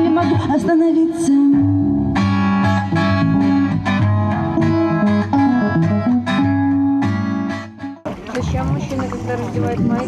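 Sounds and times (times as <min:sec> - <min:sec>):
plucked guitar melody: 0:00.0 - 0:10.0.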